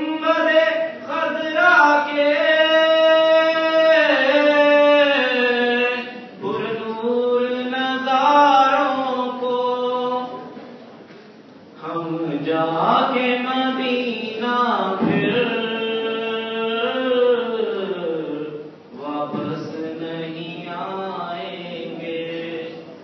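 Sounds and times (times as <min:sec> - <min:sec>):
man chanting devotional poetry: 0:00.0 - 0:10.5, 0:11.8 - 0:23.0.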